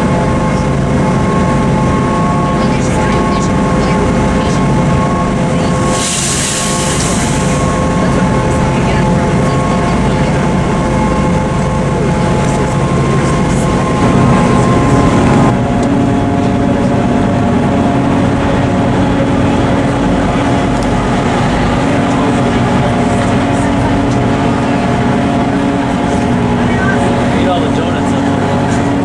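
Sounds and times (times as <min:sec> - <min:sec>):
cog train rumbling: 0:00.0 - 0:29.0
engine hum and whine: 0:00.0 - 0:29.0
passing train engine: 0:00.0 - 0:29.0.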